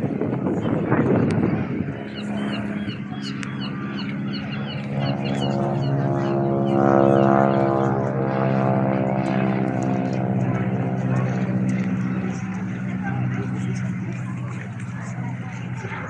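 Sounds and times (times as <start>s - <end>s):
propeller engine droning: 0.0s - 16.0s.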